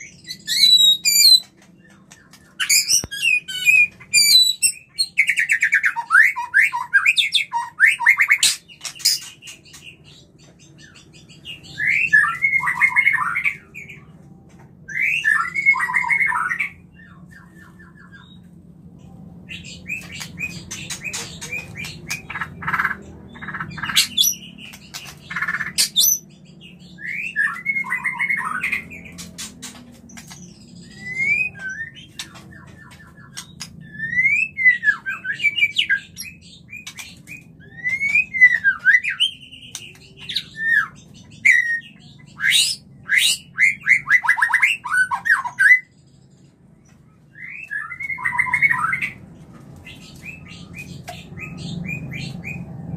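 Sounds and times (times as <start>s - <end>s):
bird whistling song: 0.0s - 14.1s, 14.9s - 18.5s, 19.5s - 29.5s, 30.1s - 46.0s, 47.3s - 49.2s, 49.9s - 52.7s.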